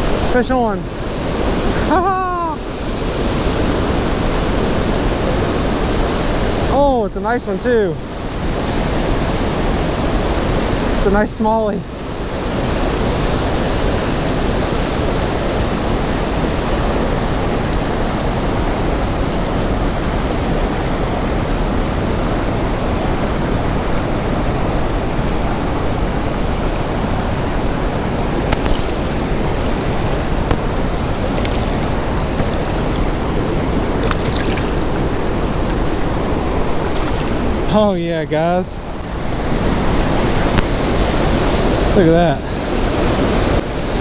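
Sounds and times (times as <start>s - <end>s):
fast-flowing river water: 0.0s - 44.0s.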